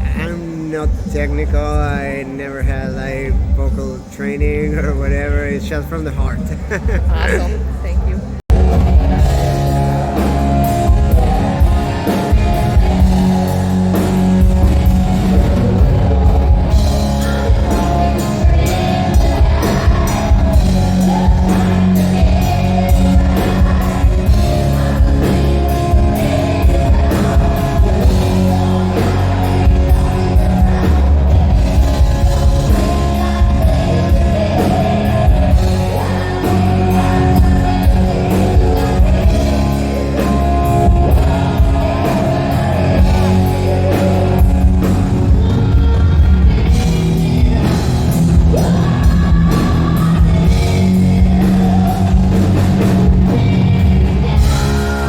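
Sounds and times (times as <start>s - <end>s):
drum kit beat: 0.0s - 55.0s
person singing: 6.6s - 55.0s
electric guitar: 7.0s - 55.0s.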